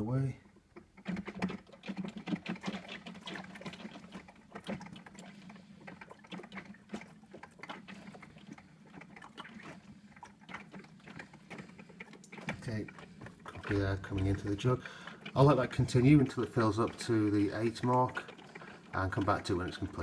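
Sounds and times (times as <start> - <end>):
coffee machine bubbling and gurgling: 0.0 - 20.0.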